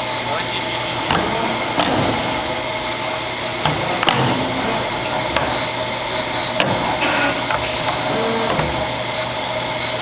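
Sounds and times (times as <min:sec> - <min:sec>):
spring-forming machine whirring: 0:00.8 - 0:10.0.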